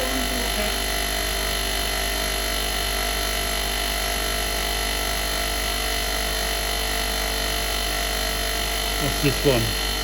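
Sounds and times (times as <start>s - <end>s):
electrical hum and whine: 0.0s - 10.0s.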